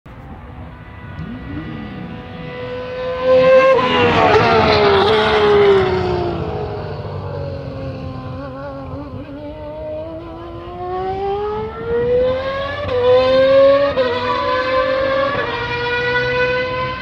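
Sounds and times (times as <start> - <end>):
racing car engine passing by: 0.2 - 17.0.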